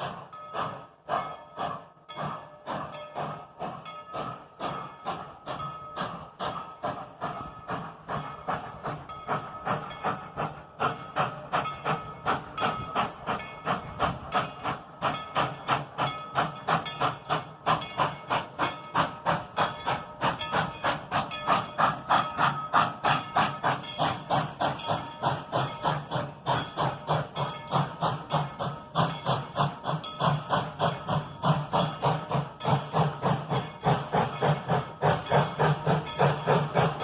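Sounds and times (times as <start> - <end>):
steam locomotive exhaust chuffing: 0.0 - 37.0.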